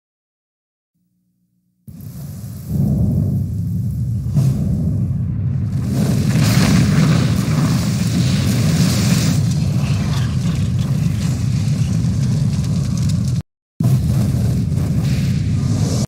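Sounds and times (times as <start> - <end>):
deep continuous rumble: 1.9 - 16.0.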